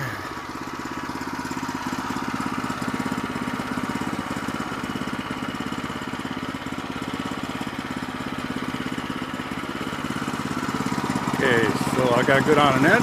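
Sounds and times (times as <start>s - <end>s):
small gas engine running: 0.0s - 13.0s.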